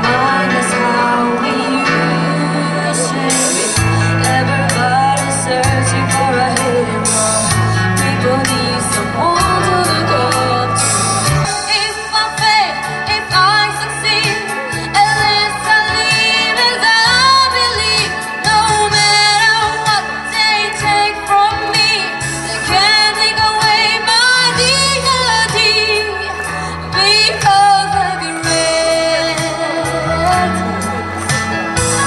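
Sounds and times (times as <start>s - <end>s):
instrumental accompaniment with bass: 0.0s - 32.0s
woman singing into microphone: 0.0s - 32.0s.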